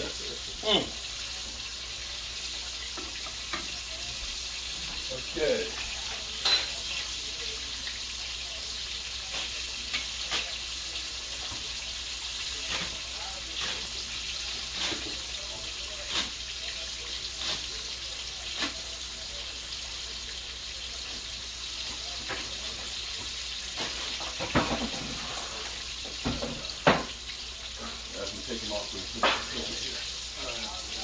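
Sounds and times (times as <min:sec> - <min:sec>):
chicken sizzling in oil: 0:00.0 - 0:31.0.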